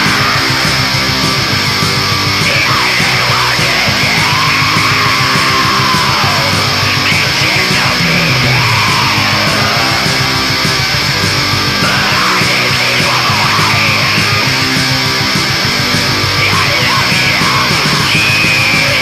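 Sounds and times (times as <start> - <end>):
distorted electric guitars: 0.0 - 19.0
heavy metal music: 0.0 - 19.0.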